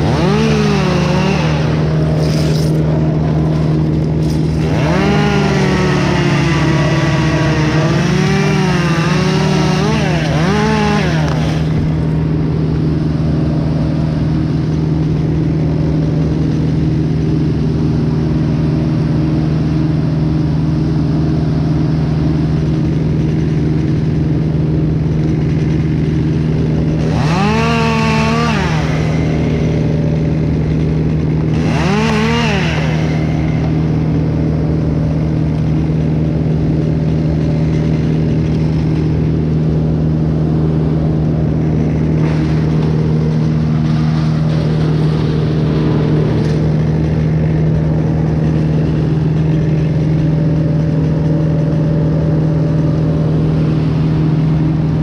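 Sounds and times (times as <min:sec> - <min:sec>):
chainsaw revving: 0:00.0 - 0:55.0
truck engine drone: 0:00.0 - 0:55.0.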